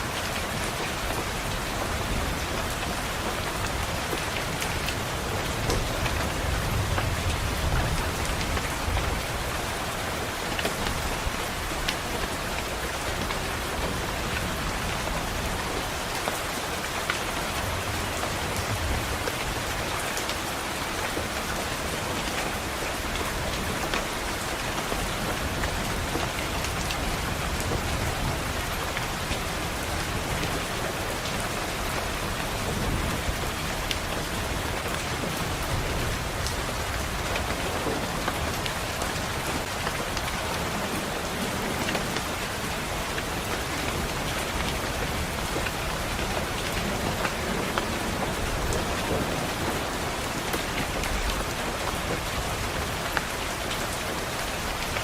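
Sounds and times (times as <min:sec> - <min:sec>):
rain pattering on window glass: 0:00.0 - 0:55.0.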